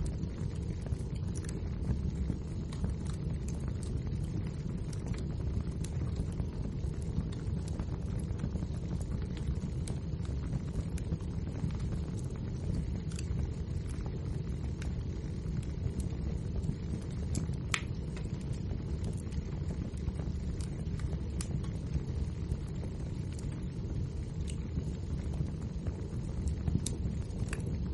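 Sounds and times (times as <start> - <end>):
flames rumbling: 0.0 - 27.9
wood fire crackling: 0.0 - 27.9.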